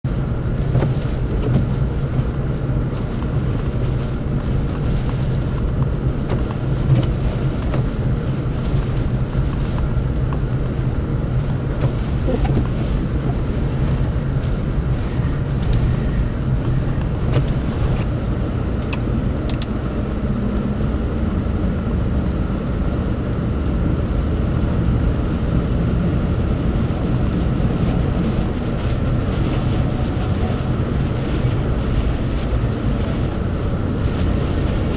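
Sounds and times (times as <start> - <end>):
blowing wind: 0.0 - 34.9
vehicle rumble: 0.0 - 34.9.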